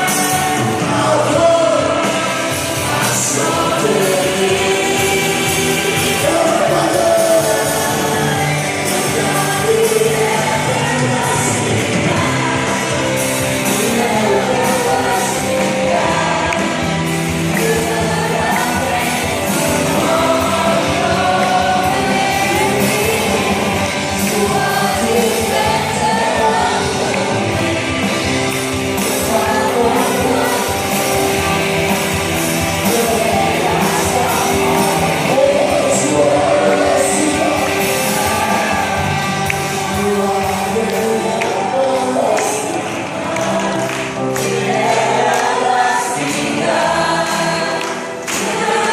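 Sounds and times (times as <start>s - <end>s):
song with singing voices: 0.0s - 48.9s.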